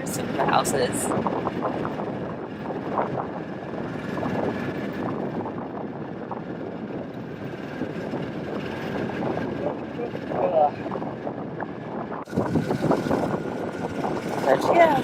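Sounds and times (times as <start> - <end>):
golf cart running hum: 0.0 - 15.0
road noise: 0.0 - 15.0.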